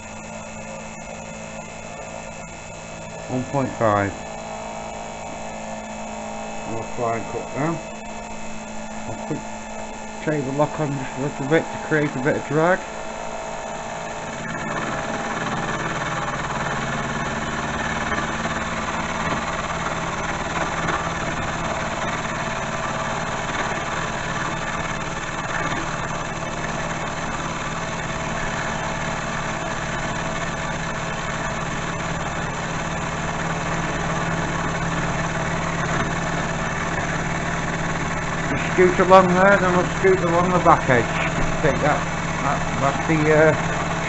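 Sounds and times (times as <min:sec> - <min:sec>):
milling machine cutting metal: 0:00.0 - 0:44.0.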